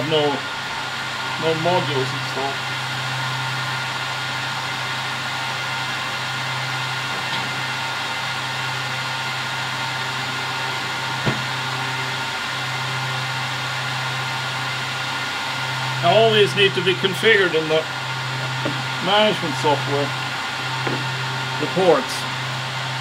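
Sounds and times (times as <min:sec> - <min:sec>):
cooling fans rushing and whining: 0:00.0 - 0:23.0
low hum: 0:00.0 - 0:23.0.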